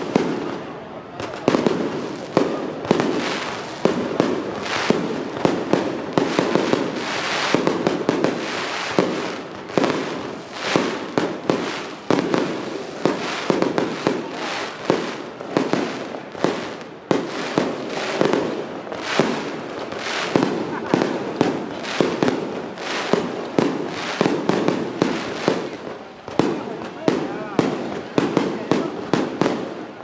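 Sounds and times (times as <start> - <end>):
firecrackers crackling: 0.0 - 30.0
fireworks bangs: 0.0 - 30.0.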